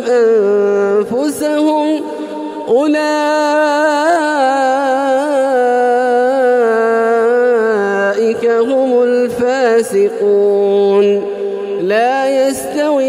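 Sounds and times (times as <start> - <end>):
man chanting through microphone: 0.0 - 13.0.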